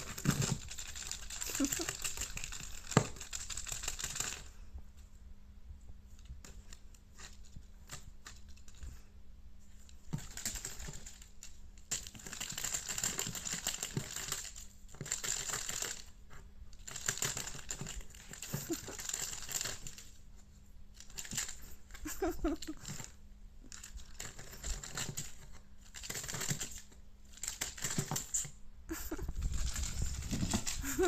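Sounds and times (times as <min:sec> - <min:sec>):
crinkly rustling of cat toy: 0:00.0 - 0:05.0, 0:06.1 - 0:31.0.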